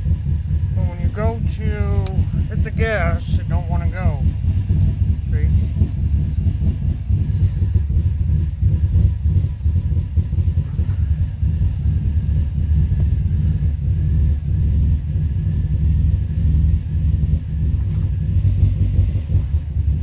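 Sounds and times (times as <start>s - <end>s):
car engine rough idle: 0.0s - 20.0s.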